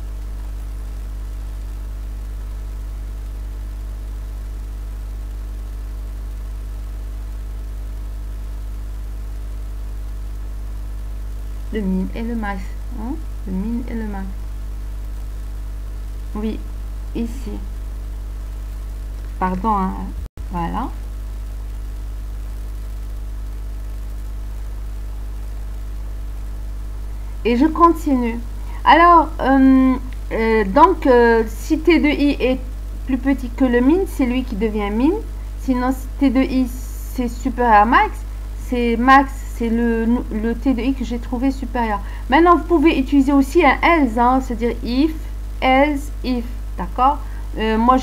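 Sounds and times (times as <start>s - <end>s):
electrical mains hum: 0.0s - 48.0s
faint hiss: 0.0s - 48.0s.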